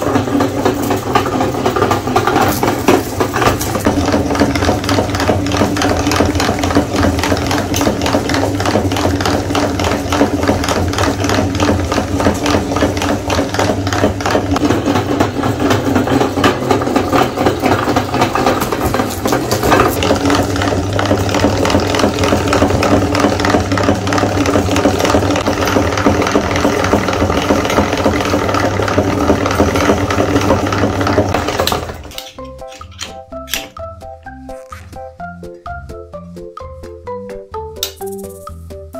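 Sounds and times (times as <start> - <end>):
meat grinder motor humming: 0.0 - 33.6.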